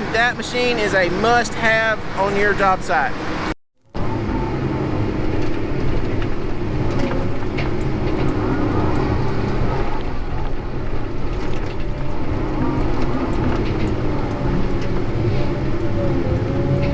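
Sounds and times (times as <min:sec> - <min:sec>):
diesel equipment humming: 0:00.0 - 0:16.9.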